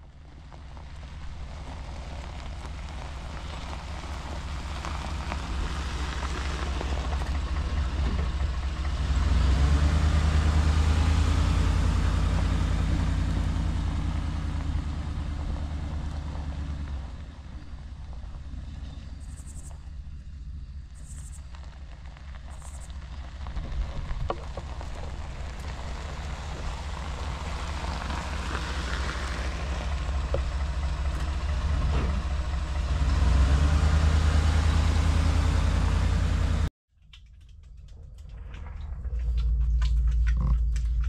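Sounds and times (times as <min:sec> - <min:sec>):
tyres crunching on gravel: 0:00.0 - 0:36.6
truck engine rumble: 0:00.0 - 0:41.0.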